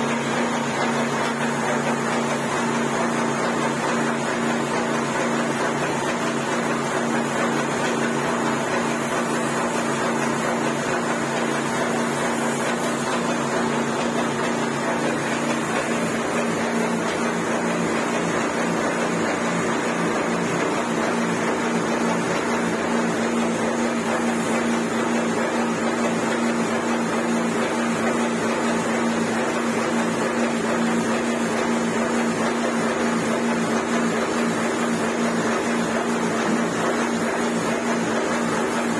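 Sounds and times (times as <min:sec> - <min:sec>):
motor pump hum: 0:00.0 - 0:38.9.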